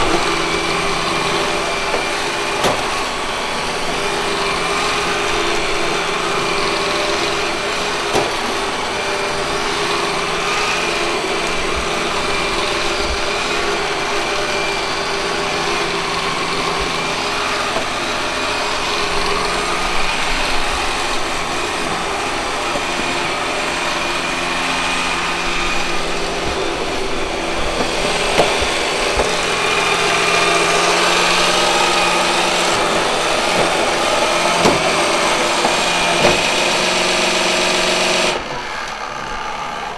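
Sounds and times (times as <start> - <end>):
robot vacuum cleaner whirring: 0.0 - 39.9
vacuum knocking: 0.0 - 39.9.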